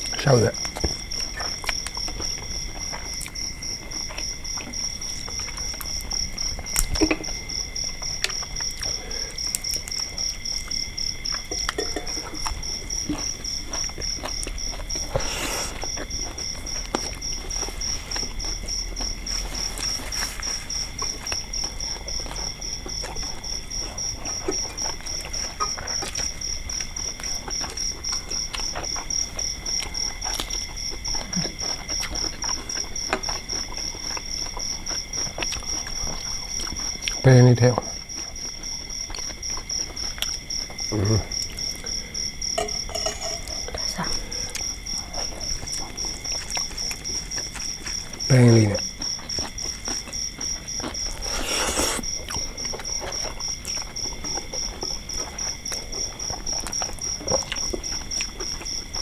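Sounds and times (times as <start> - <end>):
faint steady insect tones: 0.0 - 59.0
night insects trilling: 0.0 - 59.0
people eating with mouth sounds: 0.0 - 59.0.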